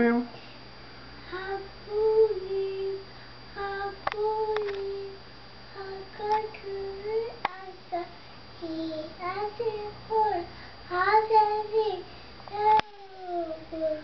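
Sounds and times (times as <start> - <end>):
toddler singing: 1.3 - 3.0, 3.6 - 5.2, 5.8 - 14.0.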